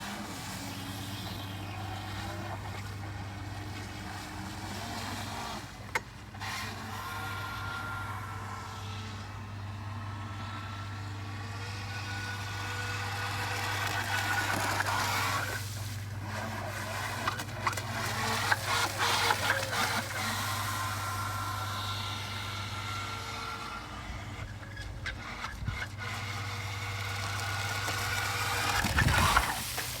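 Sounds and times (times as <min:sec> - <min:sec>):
boat motor and water rushing: 0:00.0 - 0:30.0.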